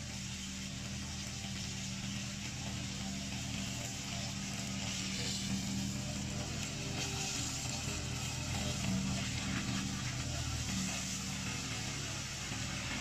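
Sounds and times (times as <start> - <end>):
cutting reeds: 0.0 - 13.0
mower engine running: 0.0 - 13.0.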